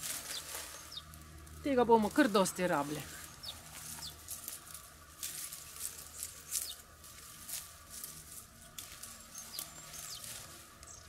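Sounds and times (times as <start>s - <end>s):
leafy branches rustling: 0.0s - 11.0s.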